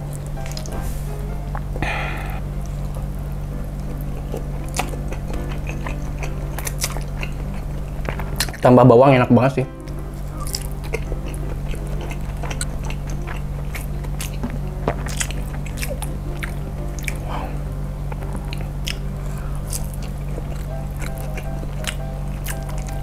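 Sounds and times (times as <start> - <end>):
person chewing: 0.0 - 8.6, 9.7 - 23.0.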